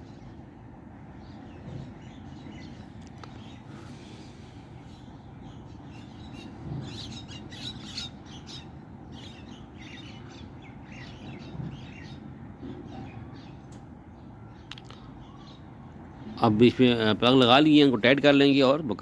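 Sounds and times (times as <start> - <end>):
birds chirping: 0.0 - 19.0
low background hum: 0.0 - 19.0.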